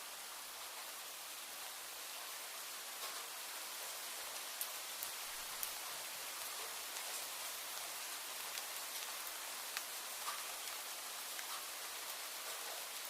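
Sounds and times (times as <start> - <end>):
steady rainfall hiss: 0.0 - 13.0
raindrops ticking on surface: 0.1 - 13.0.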